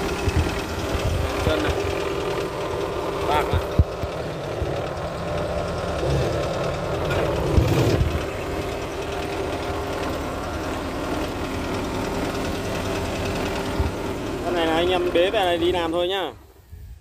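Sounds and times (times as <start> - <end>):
diesel engine idling: 0.0 - 16.6.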